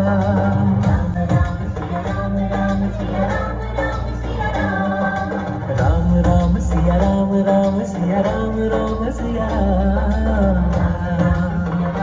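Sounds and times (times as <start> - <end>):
heavy bass: 0.0 - 12.0
loud dance music: 0.0 - 12.0.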